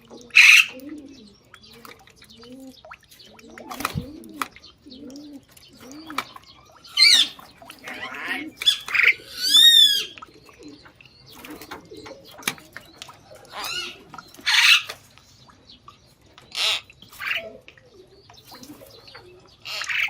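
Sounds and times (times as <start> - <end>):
animal calls and chirps: 0.0 - 20.0.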